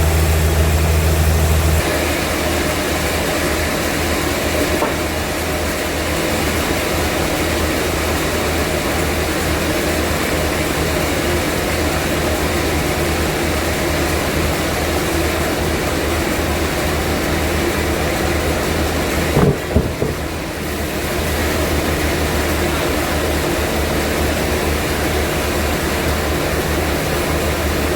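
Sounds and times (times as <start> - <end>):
sawmill machinery running: 0.0 - 27.9.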